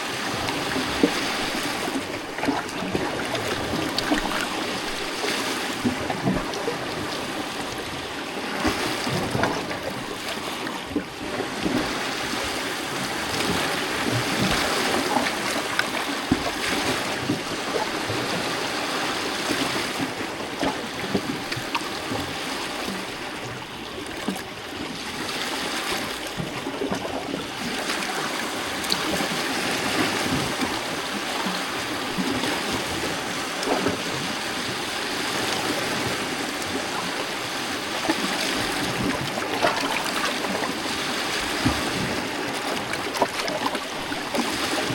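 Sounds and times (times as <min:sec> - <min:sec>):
waves lapping on rocks: 0:00.0 - 0:44.9.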